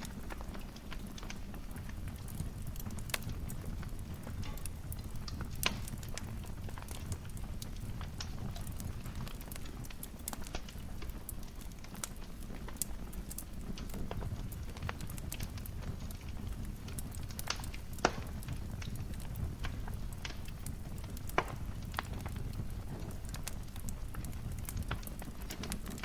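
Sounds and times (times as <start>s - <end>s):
loud fire pops: 0.0s - 26.0s
wood fire crackling: 0.0s - 26.0s.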